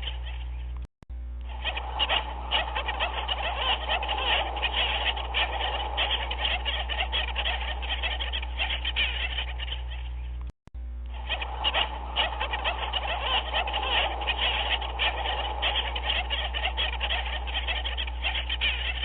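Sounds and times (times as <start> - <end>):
chorus of animal calls: 0.0 - 0.8, 1.5 - 10.4, 11.1 - 19.0
steady low hum: 0.0 - 19.0.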